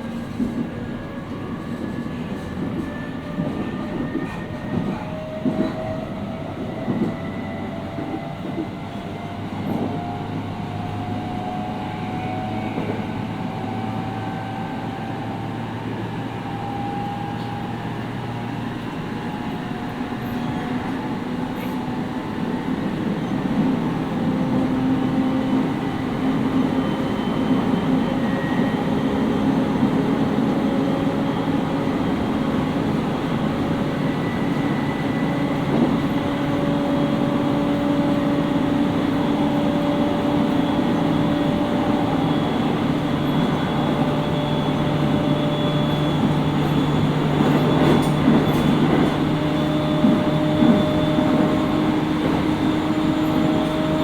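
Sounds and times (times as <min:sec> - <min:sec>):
train motor and gear hum: 0:00.0 - 0:54.0
train wheels rumbling on rail: 0:00.0 - 0:54.0.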